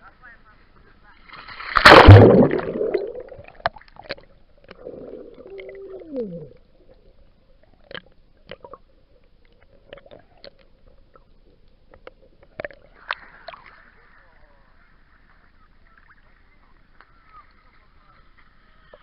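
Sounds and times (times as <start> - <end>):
muffled water gurgling and sloshing: 1.7 - 19.0.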